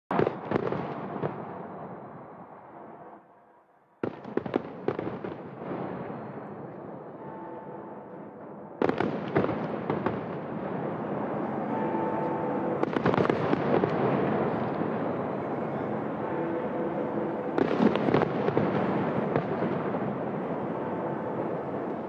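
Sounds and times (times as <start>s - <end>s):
fireworks bangs and crackling: 0.1s - 2.5s, 4.0s - 7.4s, 8.4s - 22.0s.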